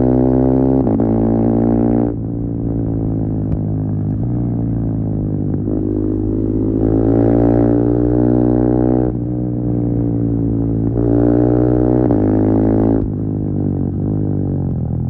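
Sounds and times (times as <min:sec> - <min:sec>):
motorcycle engine running loud: 0:00.0 - 0:15.0.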